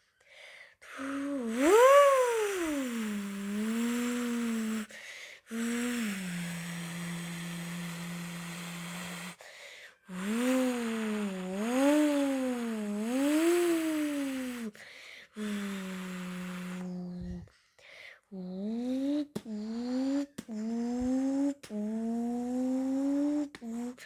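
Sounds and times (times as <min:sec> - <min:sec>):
person imitating a car engine: 0:00.9 - 0:04.9, 0:05.5 - 0:09.4, 0:10.1 - 0:14.8, 0:15.4 - 0:17.4, 0:18.3 - 0:24.0.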